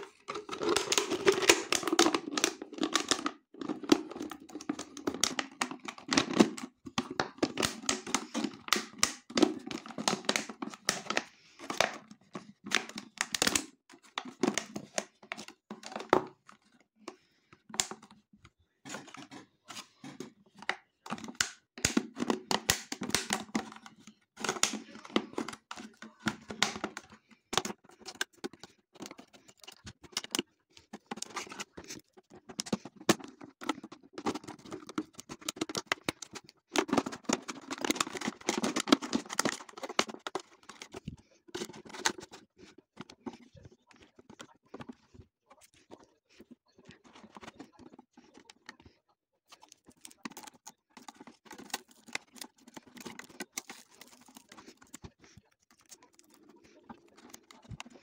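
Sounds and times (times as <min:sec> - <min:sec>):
crinkling and tearing: 0:00.0 - 0:16.6, 0:20.6 - 0:42.7, 0:49.5 - 0:58.0.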